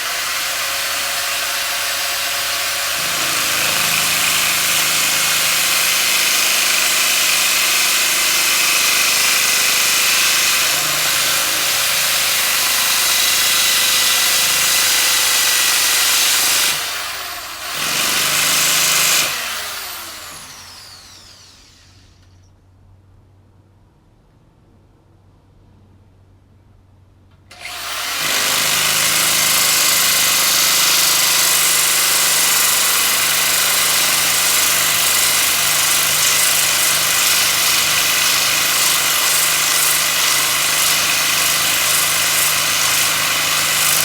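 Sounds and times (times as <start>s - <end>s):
power sander whining and rasping: 0.0s - 22.4s, 27.5s - 44.0s.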